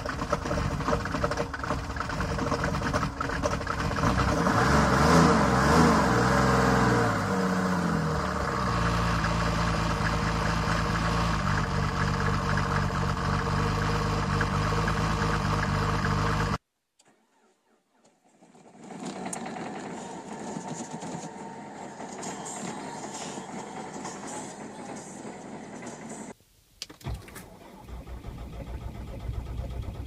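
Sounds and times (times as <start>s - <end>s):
diesel engine idling: 0.0s - 16.6s, 19.2s - 26.3s, 27.7s - 30.0s
engine noise inside car cabin: 0.0s - 16.6s, 18.8s - 30.0s.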